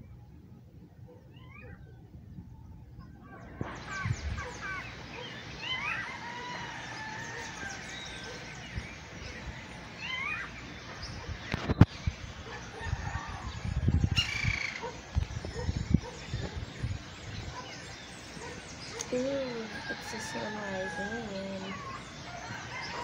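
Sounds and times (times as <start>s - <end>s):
birds chirping and calling: 0.9s - 23.0s.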